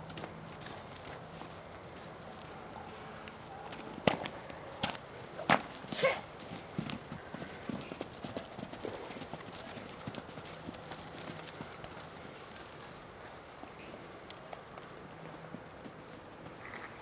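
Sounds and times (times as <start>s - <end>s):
horse hooves clip-clopping: 0.0s - 17.0s.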